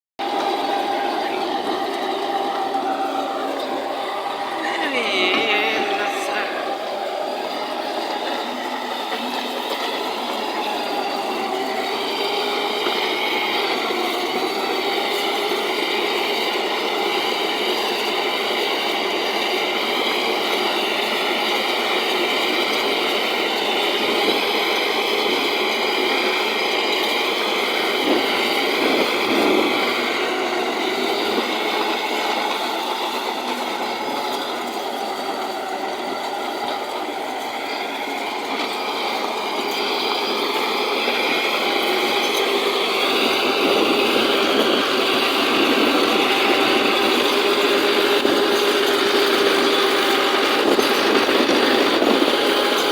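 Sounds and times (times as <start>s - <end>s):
tractor engine under load: 0.2s - 52.9s.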